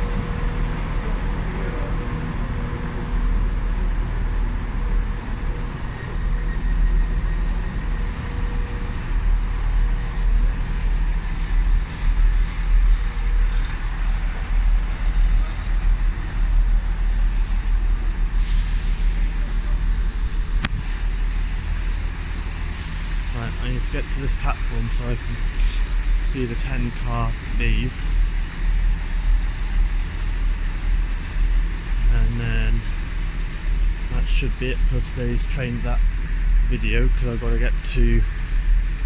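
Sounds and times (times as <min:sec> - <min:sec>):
faint hum: 0:00.0 - 0:39.0
train engine rumbling: 0:00.0 - 0:39.0.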